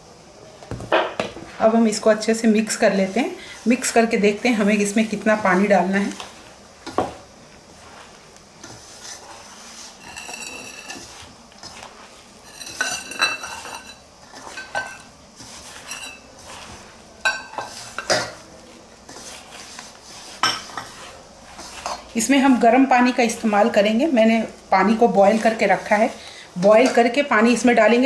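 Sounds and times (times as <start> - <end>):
hand rubbing flour rustle: 1.4 - 28.0.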